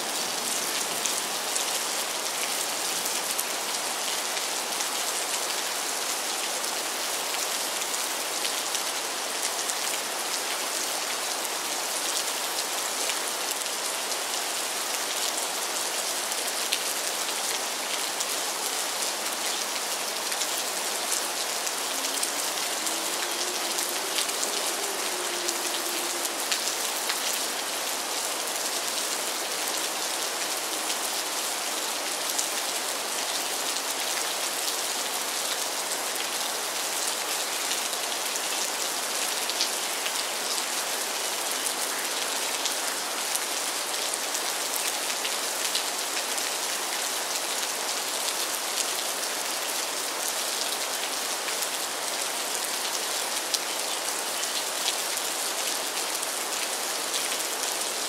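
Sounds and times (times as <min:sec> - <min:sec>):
rain falling on river: 0:00.0 - 0:58.0.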